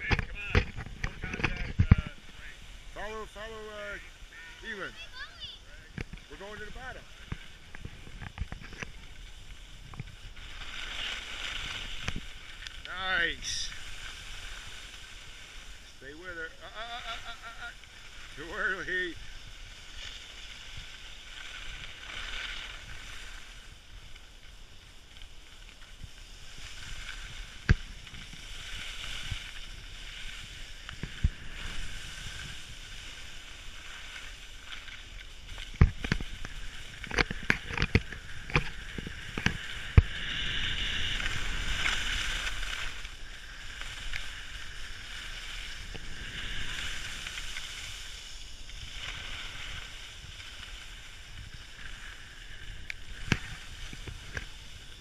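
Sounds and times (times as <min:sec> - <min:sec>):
skis scraping over snow: 0:00.0 - 0:55.0.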